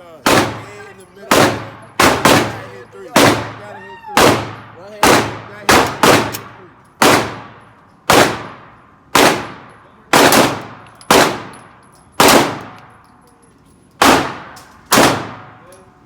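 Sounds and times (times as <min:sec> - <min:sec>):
pistol shots echoing: 0:00.2 - 0:12.9, 0:14.0 - 0:15.6.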